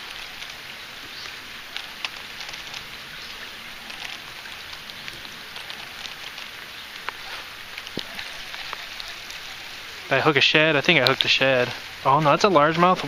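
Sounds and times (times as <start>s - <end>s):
raindrops ticking on surfaces: 0.0s - 13.0s
steady rain hiss: 0.0s - 13.0s.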